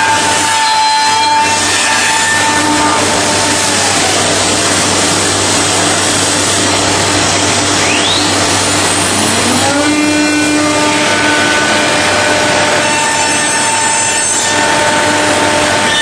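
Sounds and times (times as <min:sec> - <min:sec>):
gliding machine whines: 0:00.0 - 0:16.0
machine running loudly: 0:00.0 - 0:16.0.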